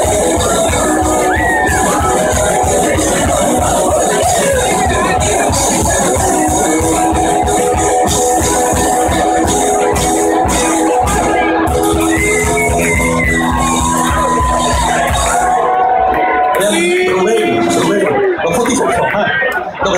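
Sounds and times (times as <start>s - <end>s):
driving drum beat: 0.0s - 18.7s
electric guitar: 0.0s - 19.2s.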